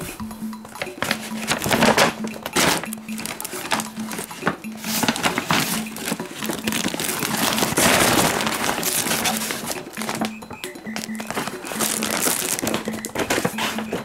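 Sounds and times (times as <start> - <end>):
samba music: 0.0 - 14.0
paper packaging crinkling: 0.8 - 14.0.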